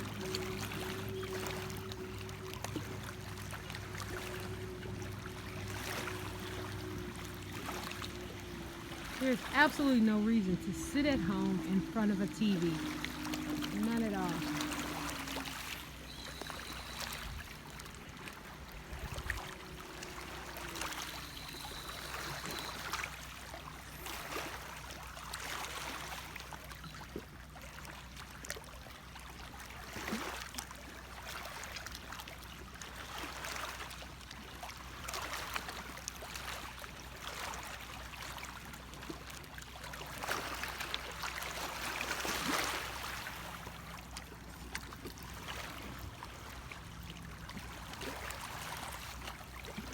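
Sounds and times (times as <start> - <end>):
small waves lapping: 0.0 - 49.9.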